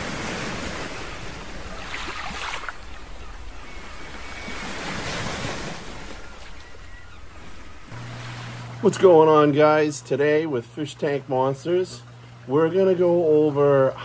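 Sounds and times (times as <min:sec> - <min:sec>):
lake water lapping: 0:00.0 - 0:14.0.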